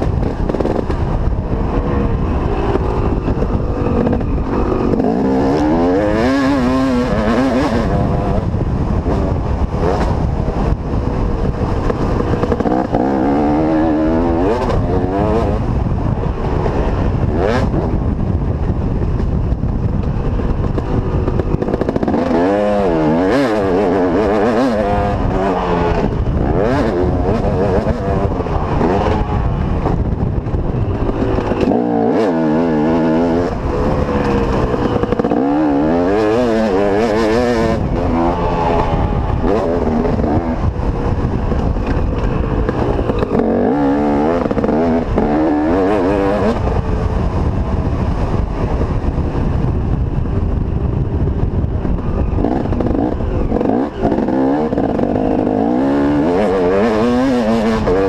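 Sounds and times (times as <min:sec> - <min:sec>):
motocross bike engine revving: 0:00.0 - 0:49.6, 0:51.0 - 0:58.0.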